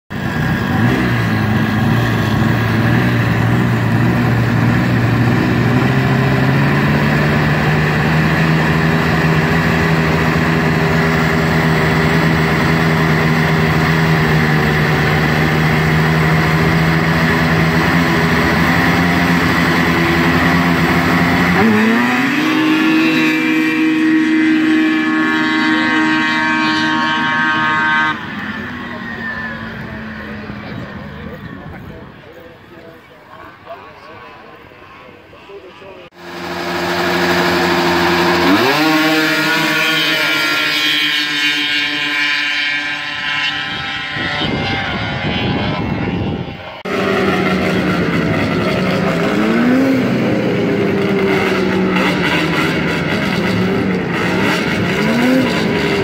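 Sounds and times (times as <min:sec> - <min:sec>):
snowmobile engines revving: 0:00.1 - 0:56.0.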